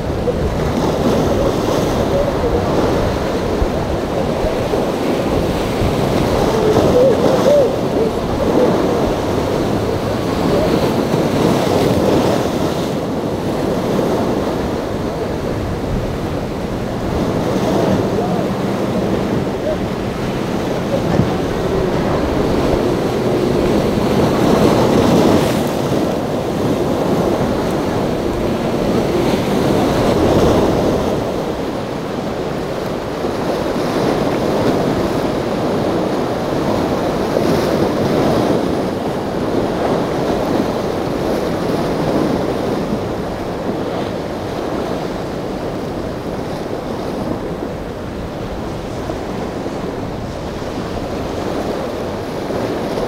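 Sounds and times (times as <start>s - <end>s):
surf breaking: 0.0s - 53.0s
wind buffeting microphone: 0.0s - 53.0s.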